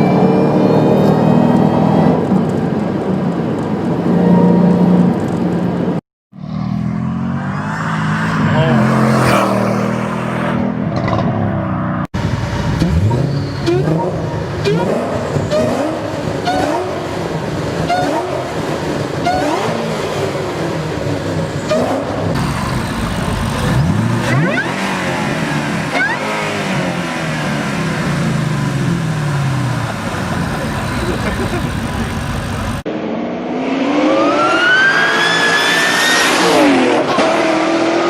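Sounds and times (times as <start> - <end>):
car engine revving: 6.4 - 38.0.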